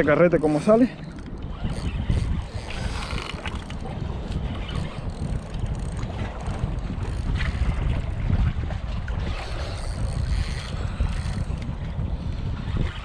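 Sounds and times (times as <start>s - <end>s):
fishing reel spinning: 0.0s - 8.2s, 9.2s - 12.9s
wind buffeting microphone: 0.0s - 13.0s.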